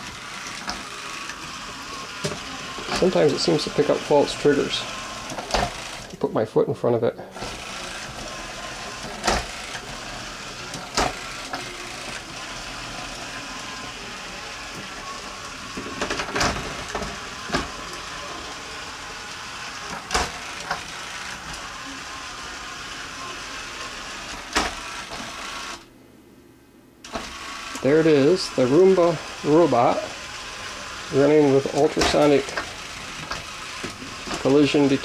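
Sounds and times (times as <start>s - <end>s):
robot wheel motors whirring: 0.0s - 6.2s, 7.4s - 25.9s, 27.0s - 35.0s.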